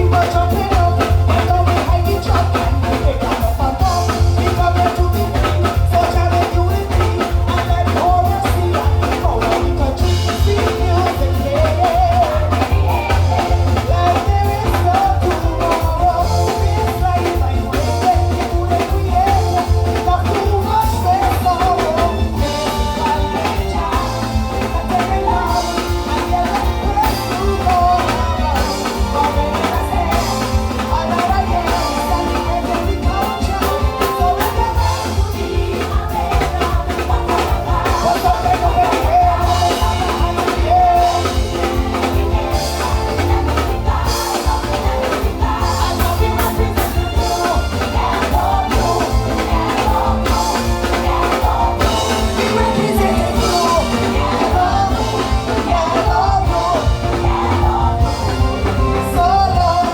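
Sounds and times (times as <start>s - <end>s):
loud live dance music: 0.0s - 59.9s.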